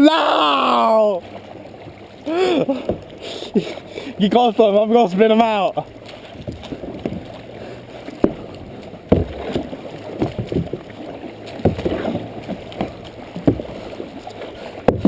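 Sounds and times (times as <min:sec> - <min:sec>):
paddle blades splashing and knocking: 0:00.0 - 0:15.0
water rushing: 0:00.0 - 0:15.0.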